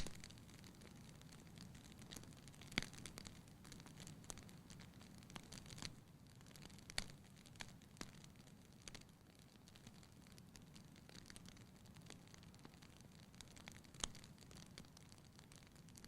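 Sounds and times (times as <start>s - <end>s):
low hiss of flame: 0.0s - 16.0s
wood fire crackling and popping: 0.0s - 16.0s.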